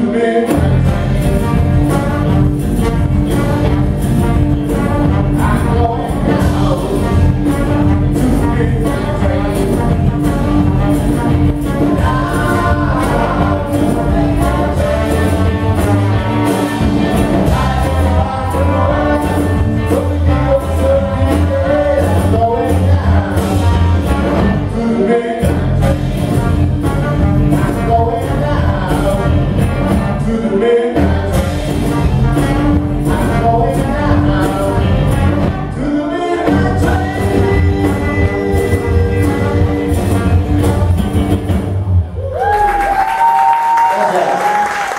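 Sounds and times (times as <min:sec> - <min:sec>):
live rock band playing: 0:00.0 - 0:43.5
trombone: 0:00.5 - 0:30.4, 0:31.0 - 0:41.9
person singing: 0:04.8 - 0:40.9.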